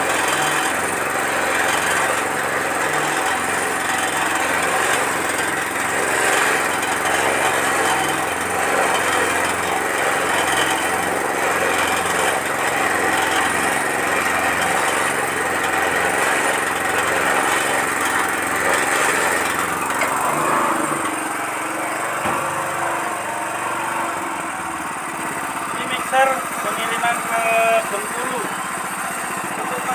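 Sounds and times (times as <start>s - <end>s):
small engine driving feed mixer: 0.0s - 29.9s.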